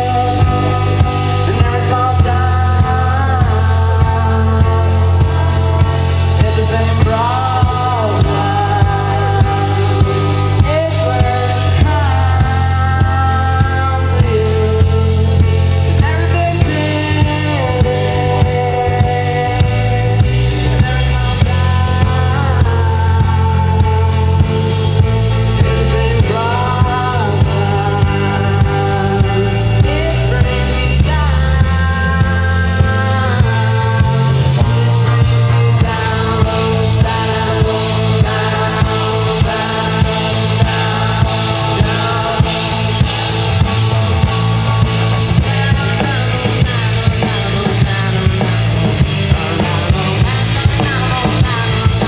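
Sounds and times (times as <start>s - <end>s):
deep sustained bass: 0.0s - 52.0s
drum beat: 0.0s - 52.0s
live band music: 0.0s - 52.0s
person singing: 0.0s - 52.0s.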